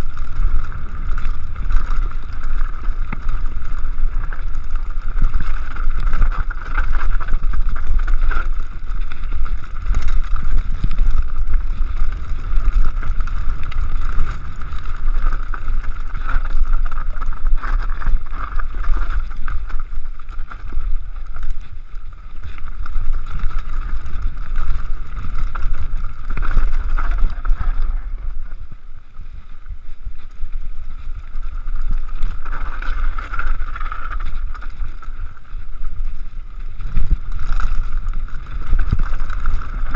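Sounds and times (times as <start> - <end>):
bike rattling over rocks: 0.0 - 39.9.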